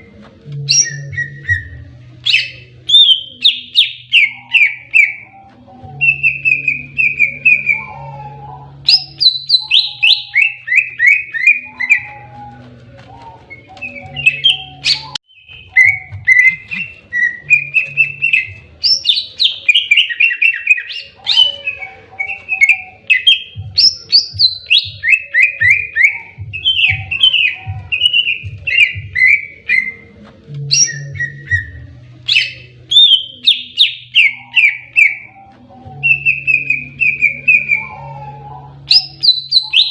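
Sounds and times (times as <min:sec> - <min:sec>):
bird singing whistled notes: 0:00.6 - 0:12.6, 0:13.2 - 0:39.9.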